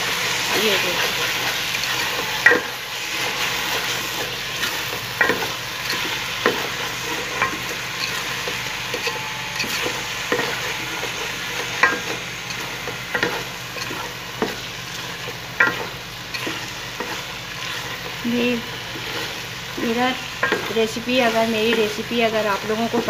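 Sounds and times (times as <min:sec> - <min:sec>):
jam sizzling in a pot: 0:00.0 - 0:23.0
spoon stirring and scraping: 0:01.0 - 0:23.0.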